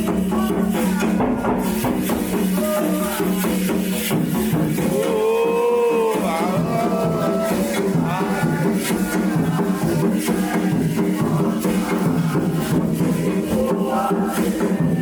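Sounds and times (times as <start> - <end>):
hand percussion with shakers: 0.0 - 15.0
people singing: 0.0 - 15.0.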